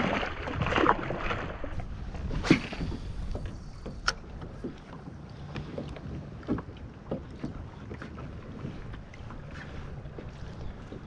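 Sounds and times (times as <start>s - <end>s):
light knocks and clicks from boat: 0.0s - 11.0s
water lapping against kayak hull: 0.0s - 11.0s
wind rumble on microphone: 0.0s - 11.0s.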